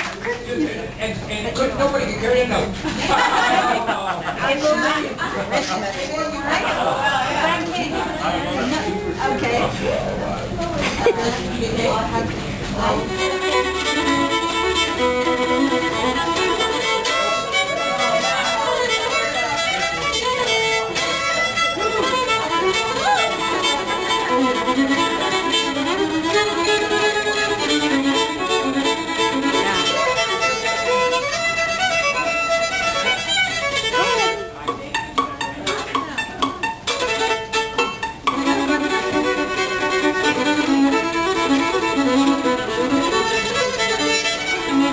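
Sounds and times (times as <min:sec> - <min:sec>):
fiddle playing a tune: 0:00.8 - 0:44.9
sustained accompaniment: 0:06.5 - 0:44.9.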